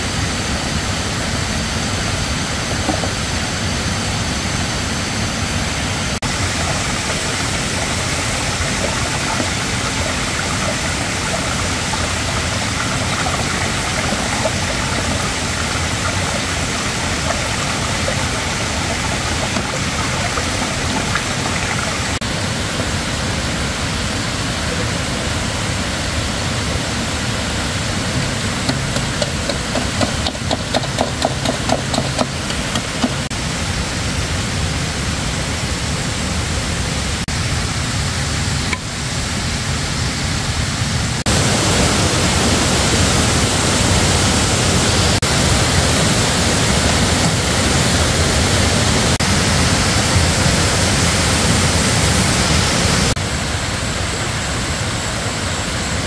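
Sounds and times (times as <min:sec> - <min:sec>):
shallow stream rushing: 0:00.0 - 0:36.2, 0:36.8 - 0:56.0.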